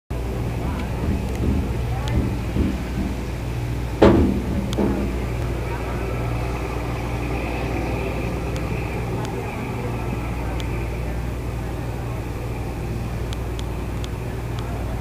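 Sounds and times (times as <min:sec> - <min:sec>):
boat engine droning: 0:00.1 - 0:15.0
water noise: 0:00.1 - 0:15.0.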